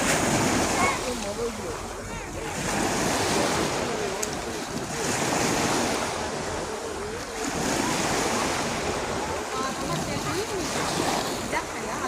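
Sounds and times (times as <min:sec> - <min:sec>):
sea waves washing ashore: 0:00.0 - 0:12.0.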